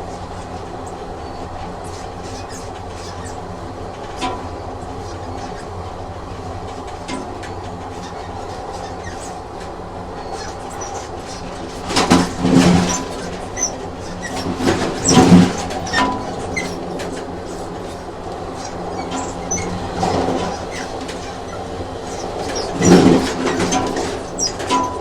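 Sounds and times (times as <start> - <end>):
train running hum: 0.0 - 25.0
train wheel clicks: 0.0 - 25.0.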